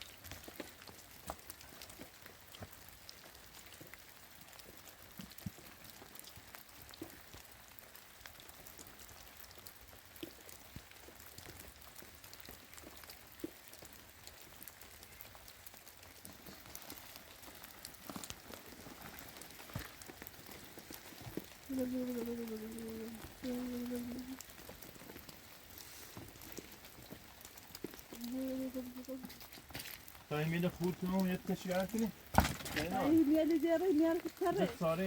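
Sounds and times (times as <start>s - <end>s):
faint steady rain: 0.0s - 35.0s
raindrops ticking on surfaces: 0.0s - 35.0s.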